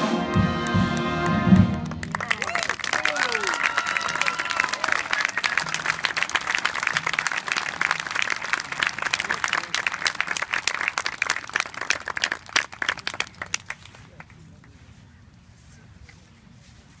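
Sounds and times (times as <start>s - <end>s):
audience applauding: 0.3s - 14.4s.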